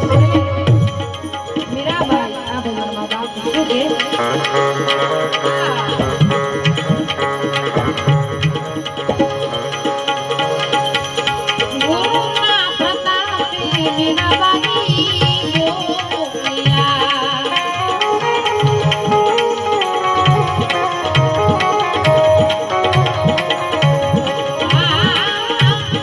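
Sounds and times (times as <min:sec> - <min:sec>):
melodic instrument gliding notes: 0:00.0 - 0:26.0
tabla rhythm: 0:00.0 - 0:26.0.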